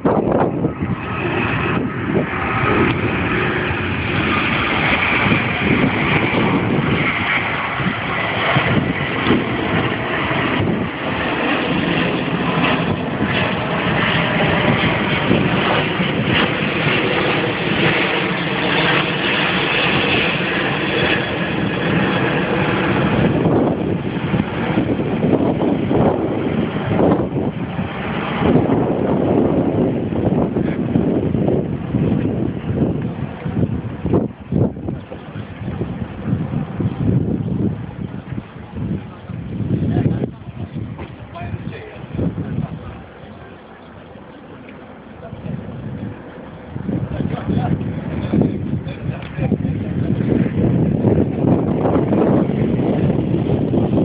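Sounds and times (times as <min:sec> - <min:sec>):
jet engine roar: 0:00.0 - 0:54.0
thin jet whine: 0:00.0 - 0:54.0
wind buffeting microphone: 0:00.0 - 0:54.0.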